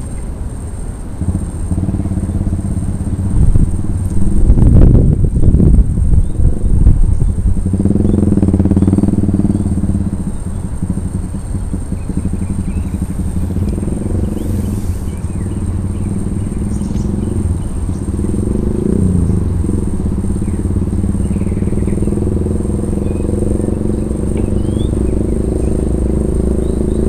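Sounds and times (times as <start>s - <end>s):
motor engine humming: 0.0s - 27.0s.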